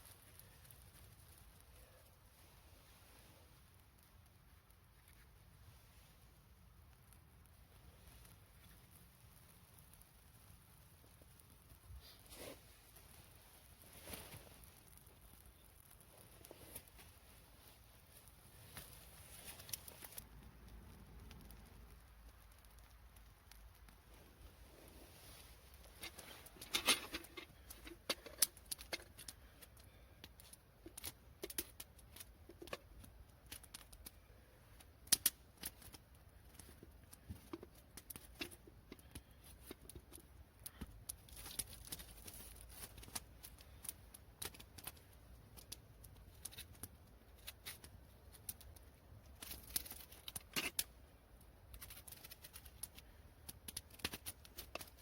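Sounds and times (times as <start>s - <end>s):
light clicks and crackles: 0.0s - 55.0s.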